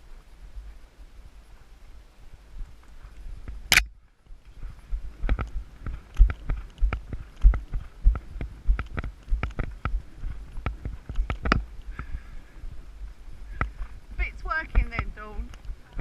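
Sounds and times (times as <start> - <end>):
horse hooves striking ground: 0.0 - 16.0
low rumble: 2.1 - 16.0.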